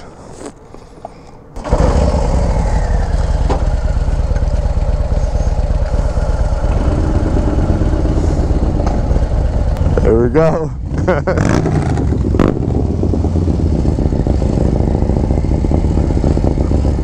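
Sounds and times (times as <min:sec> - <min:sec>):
motorcycle engine running: 0:01.6 - 0:17.0.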